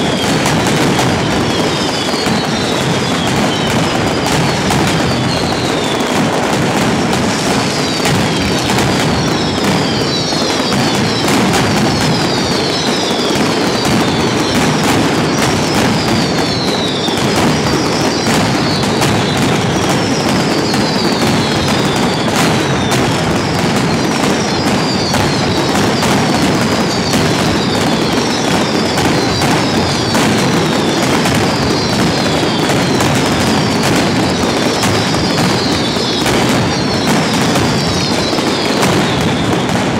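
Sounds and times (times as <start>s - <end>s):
firecrackers exploding rapidly: 0.0s - 39.9s.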